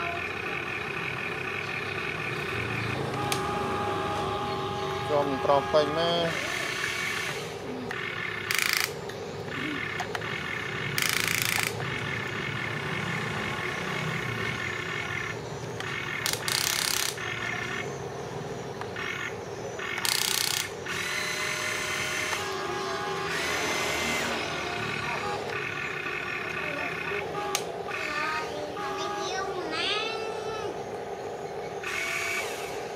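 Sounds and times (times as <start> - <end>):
electric motors whining: 0.0 - 32.9.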